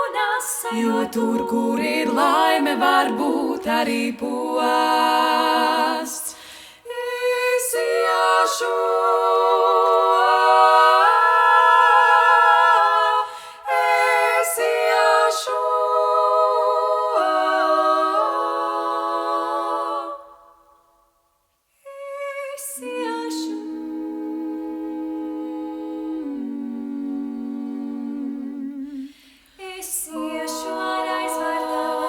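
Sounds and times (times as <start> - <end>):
women singing in close harmony: 0.0 - 20.9, 21.8 - 32.0.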